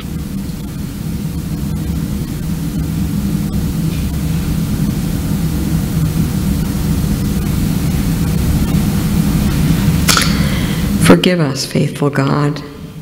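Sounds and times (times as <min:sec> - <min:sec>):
low rumble: 0:00.0 - 0:11.4
loud static hiss: 0:00.0 - 0:13.0.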